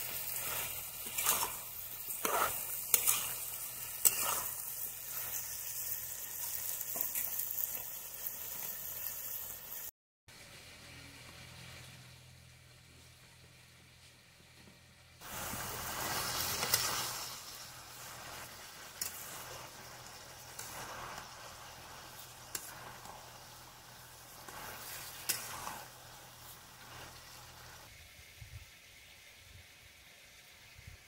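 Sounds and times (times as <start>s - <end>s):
chicken sizzling in a pan: 0.0s - 12.8s, 15.2s - 31.0s.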